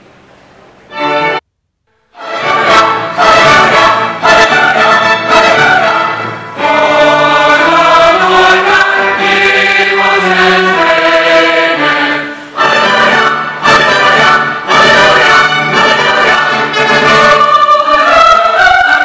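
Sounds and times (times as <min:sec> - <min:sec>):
symphony orchestra: 0:00.9 - 0:01.4, 0:02.2 - 0:19.0
choir singing held chords: 0:02.1 - 0:19.0.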